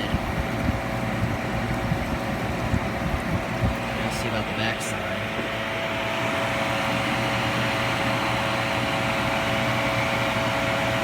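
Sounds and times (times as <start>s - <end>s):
window air conditioner running: 0.0s - 11.0s.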